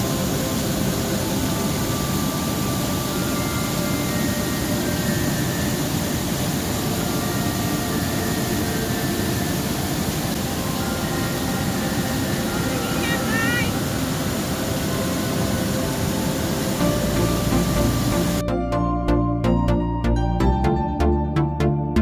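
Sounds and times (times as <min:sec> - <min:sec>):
fast-flowing river water: 0:00.0 - 0:18.4.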